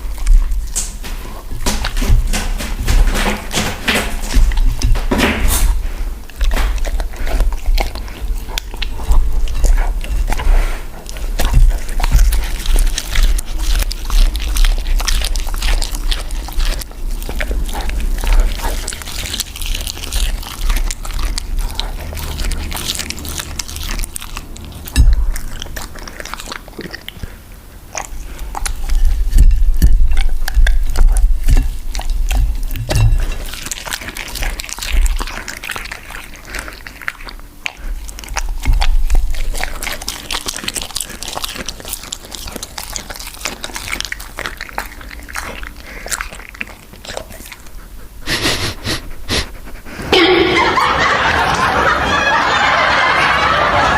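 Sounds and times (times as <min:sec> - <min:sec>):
dog chewing food: 0:00.0 - 0:50.3.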